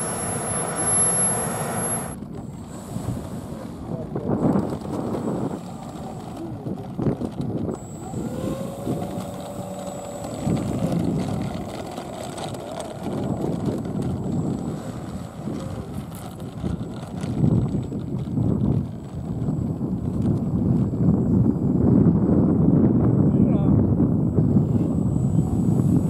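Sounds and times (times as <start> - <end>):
faint motor tone: 0.0 - 21.8, 24.3 - 26.0
model airplane propeller: 0.0 - 26.0
wind rumble on microphone: 0.0 - 26.0.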